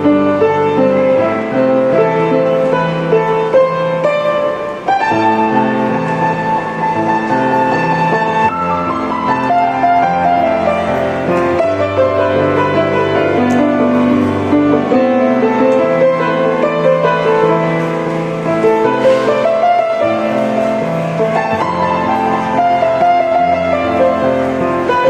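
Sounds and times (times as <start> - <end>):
piano background music: 0.0 - 25.0.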